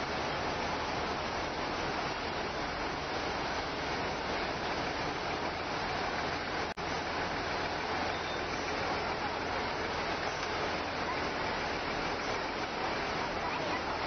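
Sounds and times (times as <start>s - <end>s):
rushing river: 0.0s - 14.0s.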